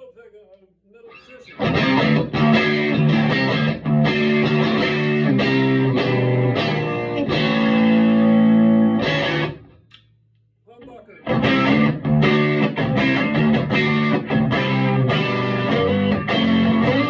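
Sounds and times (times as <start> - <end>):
overdriven electric guitar chords: 1.4 - 9.7, 11.2 - 17.0.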